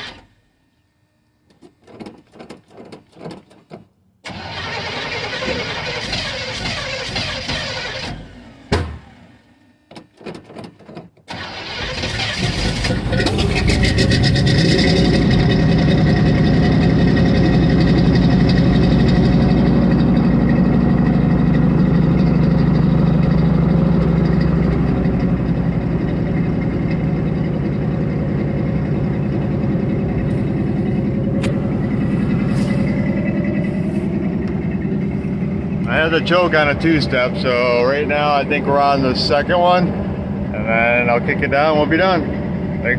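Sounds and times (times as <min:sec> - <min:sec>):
pickup engine cold start: 0:00.0 - 0:00.6, 0:01.8 - 0:42.9.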